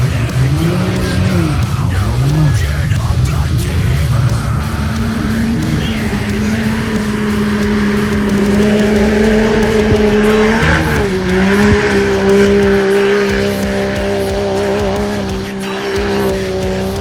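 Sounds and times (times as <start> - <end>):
engine at high revs: 0.0 - 17.0.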